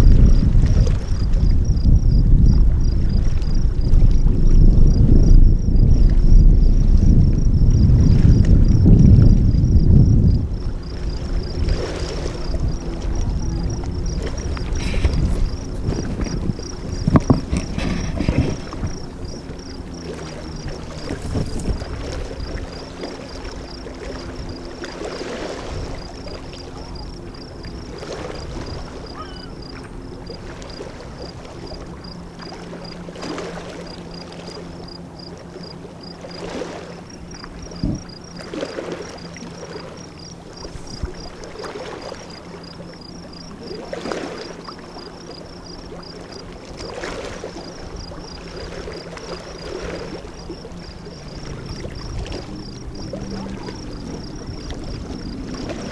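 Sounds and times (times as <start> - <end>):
water splashing and lapping: 0.0 - 55.9.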